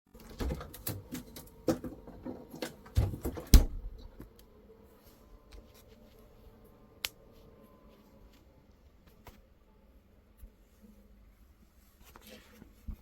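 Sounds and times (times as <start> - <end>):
faint steady hum: 0.2 - 13.0.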